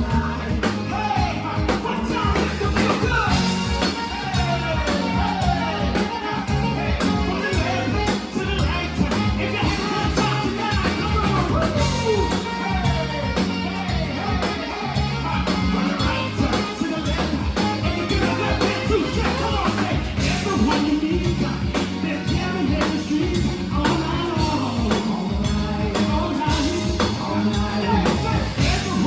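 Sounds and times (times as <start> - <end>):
bass guitar: 0.0 - 29.0
drum kit beat: 0.0 - 29.0.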